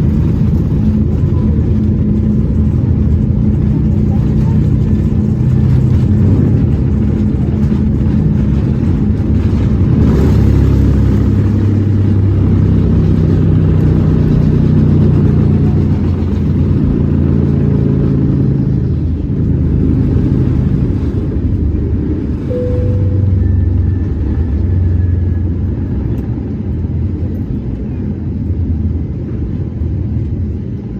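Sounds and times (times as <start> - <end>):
jet engines at takeoff power: 0.0 - 30.9.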